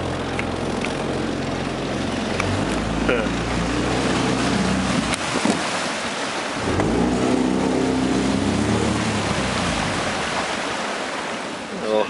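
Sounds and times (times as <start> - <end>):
outboard motor running: 0.0 - 11.3
water and air rushing: 0.0 - 12.0.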